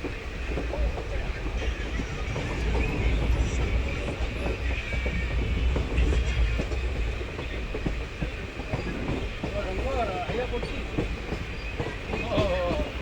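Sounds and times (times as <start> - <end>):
train rumbling: 0.0 - 13.0
train wheels clattering on rails: 0.0 - 13.0.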